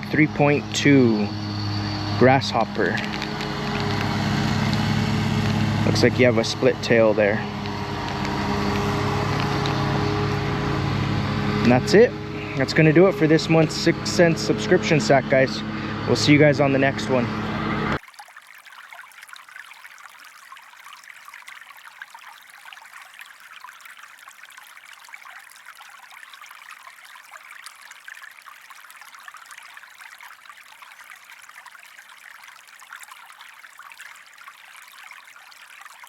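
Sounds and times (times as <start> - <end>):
trickling rushing water: 0.0 - 36.0.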